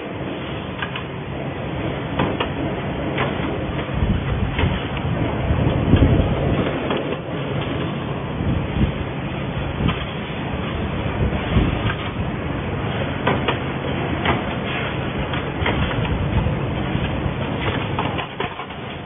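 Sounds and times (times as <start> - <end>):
steady machine noise: 0.0 - 19.0.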